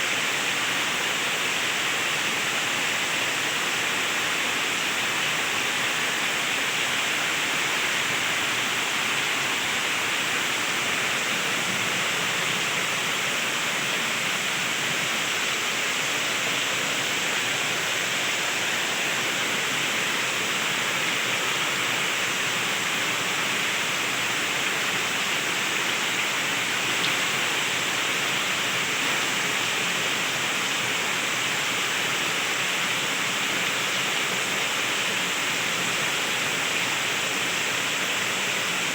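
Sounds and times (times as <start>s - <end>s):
heavy rain pouring: 0.6s - 38.9s.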